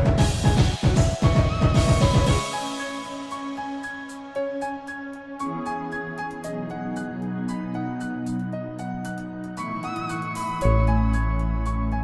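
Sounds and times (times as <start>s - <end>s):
calm background music: 0.0s - 12.0s.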